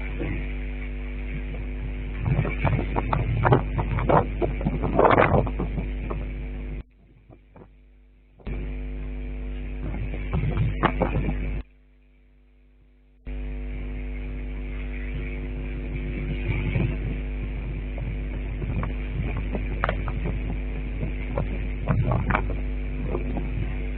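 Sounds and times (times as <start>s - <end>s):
electrical buzzing hum: 0.0s - 23.9s.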